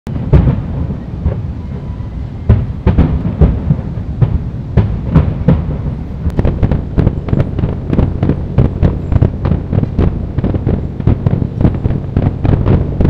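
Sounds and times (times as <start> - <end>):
continuous low rumble: 0.1 - 13.0
fireworks booming: 0.1 - 13.0.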